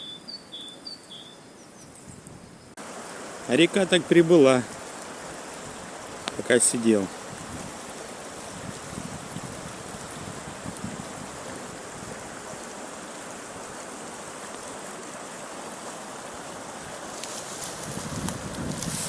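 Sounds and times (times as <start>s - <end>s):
river water babbling: 2.8s - 19.0s.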